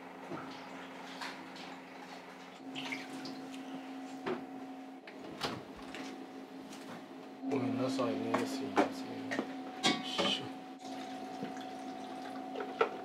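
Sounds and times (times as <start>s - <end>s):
kitchen low hum: 0.0s - 13.0s.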